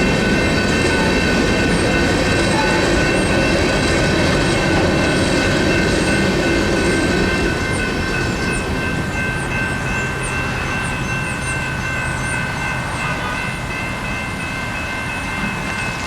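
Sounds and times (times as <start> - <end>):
electronic crossing bells ringing: 0.0 - 16.0
freight train rumbling: 0.0 - 16.0.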